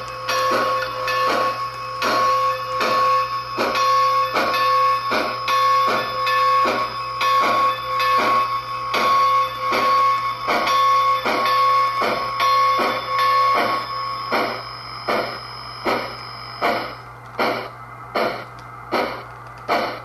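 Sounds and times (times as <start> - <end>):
steady tone: 0.0 - 20.0
steam locomotive exhaust chuffs: 0.0 - 20.0.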